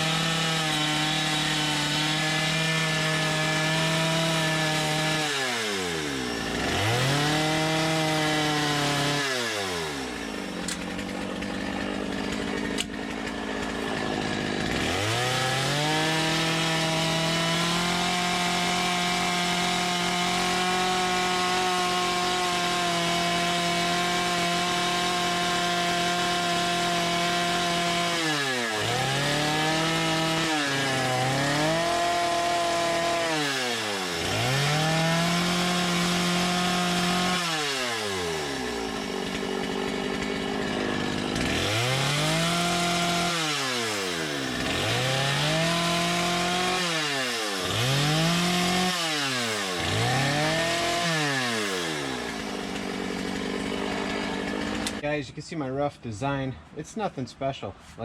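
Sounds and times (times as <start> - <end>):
chainsaw carving wood: 0.0 - 55.1.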